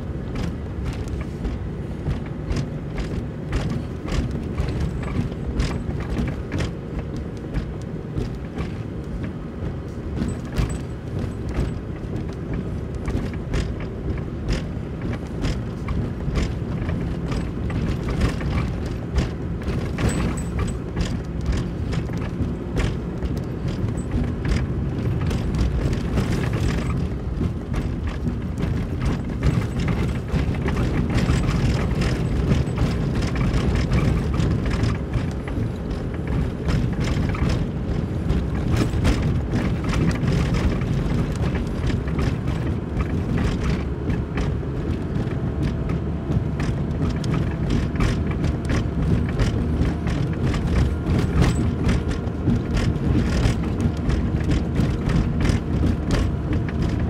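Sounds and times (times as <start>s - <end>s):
low road rumble: 0.0s - 57.0s
wheels knocking and rattling: 0.0s - 57.0s.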